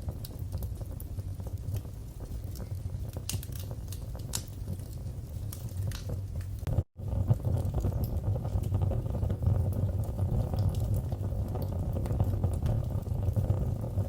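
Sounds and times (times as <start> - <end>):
low rumble of burning flames: 0.0 - 14.0
wood fire crackling and popping: 0.0 - 14.0.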